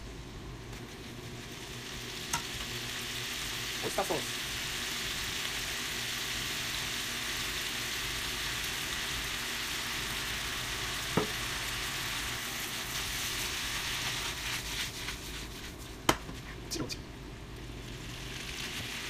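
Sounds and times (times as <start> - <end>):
food sizzling in a frying pan: 0.7 - 16.3, 17.5 - 19.0.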